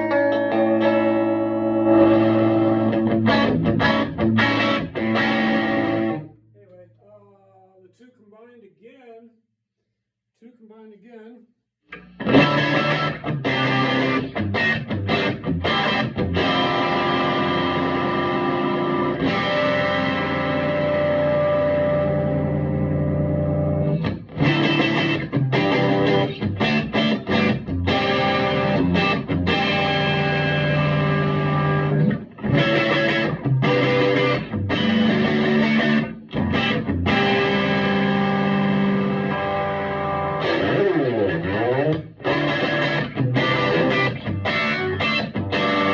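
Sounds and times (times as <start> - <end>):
distorted electric guitar chords: 0.0 - 6.4, 11.9 - 45.9.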